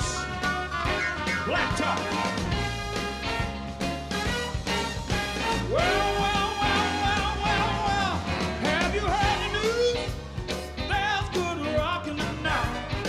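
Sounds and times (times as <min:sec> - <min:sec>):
blues-rock dance music: 0:00.0 - 0:13.0.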